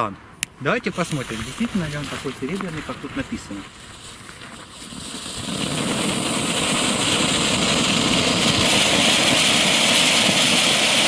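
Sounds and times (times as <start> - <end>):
firework fountain hissing sparks: 0.7 - 11.0.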